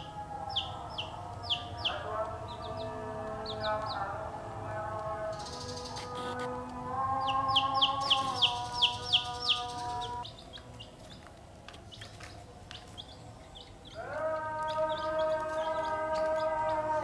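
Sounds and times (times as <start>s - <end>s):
chicks peeping: 0.0s - 4.3s, 4.9s - 17.0s.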